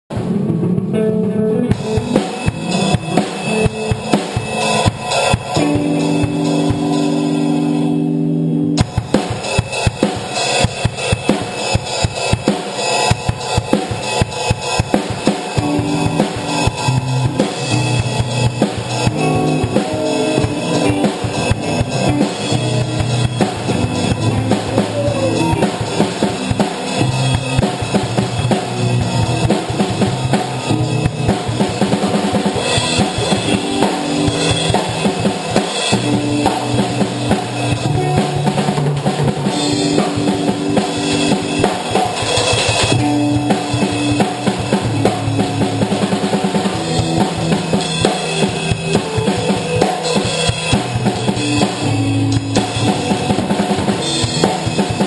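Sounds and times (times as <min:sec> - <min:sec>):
background music with held chords: 0:00.1 - 0:55.0
fast steady drum beat: 0:01.7 - 0:08.0, 0:08.8 - 0:55.0.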